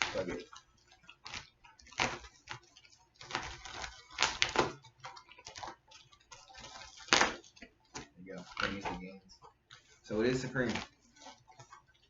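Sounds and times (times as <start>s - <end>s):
plastic mailer crinkling and tearing: 0.0s - 12.0s.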